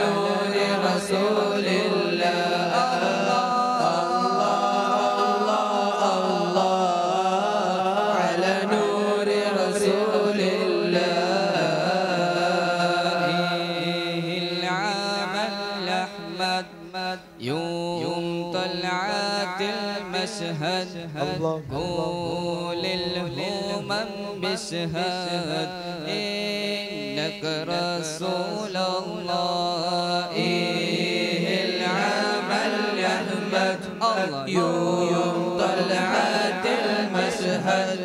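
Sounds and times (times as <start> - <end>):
group of men singing into microphones: 0.0 - 38.0.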